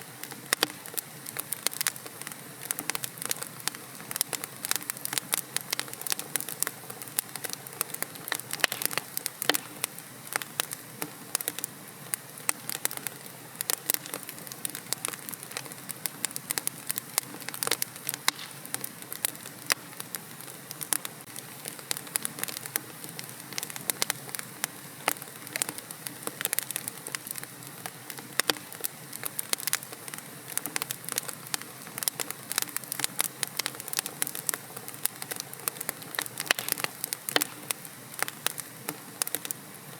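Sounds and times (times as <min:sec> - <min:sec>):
fire crackling: 0:00.0 - 0:39.9
soft steady hiss: 0:00.0 - 0:39.9.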